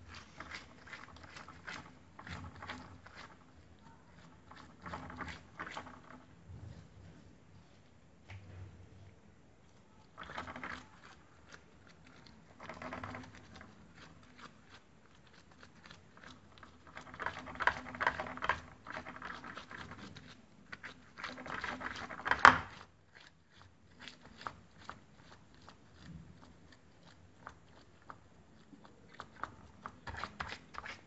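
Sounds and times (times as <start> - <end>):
dough scraping and crackling: 0.0 - 9.2, 9.8 - 31.0.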